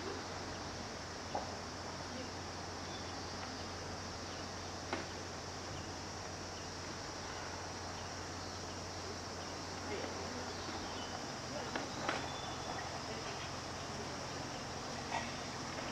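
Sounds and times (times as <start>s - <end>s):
insect chorus: 0.0s - 15.9s.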